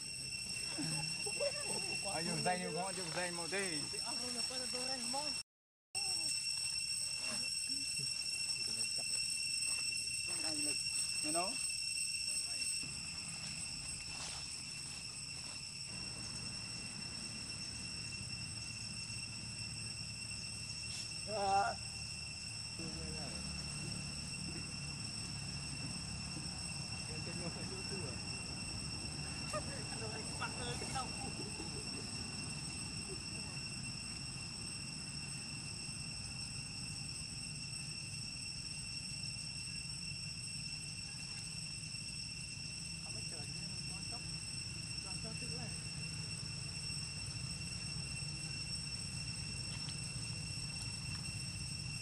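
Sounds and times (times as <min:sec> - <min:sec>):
insects calling: 0:00.0 - 0:05.4, 0:06.0 - 0:52.0.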